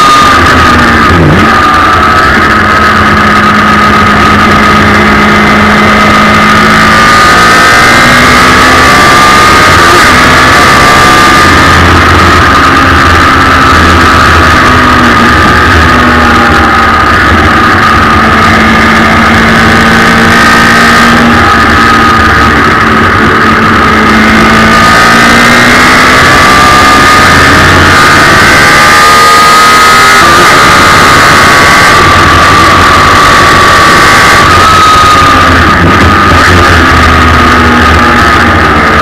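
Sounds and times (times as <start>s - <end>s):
motorcycle engine at high revs: 0.0s - 39.0s.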